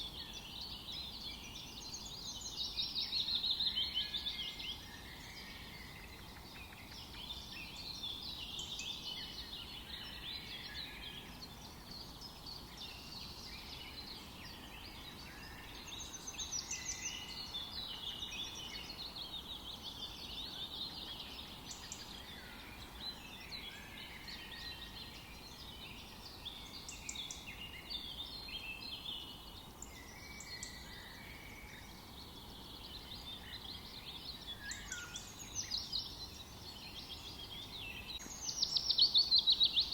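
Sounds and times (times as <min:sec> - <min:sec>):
low background hiss: 0:00.0 - 0:39.9
small birds chirping and trilling: 0:00.0 - 0:39.9.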